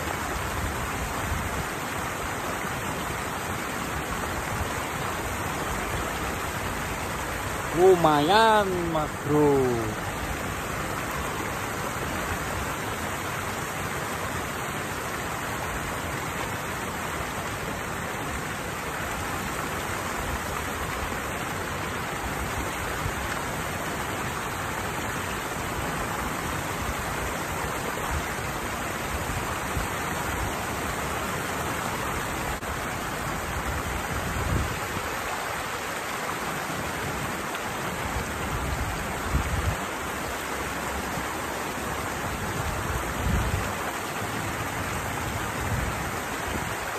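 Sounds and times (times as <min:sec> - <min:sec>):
water rushing down a cascade: 0:00.0 - 0:46.9.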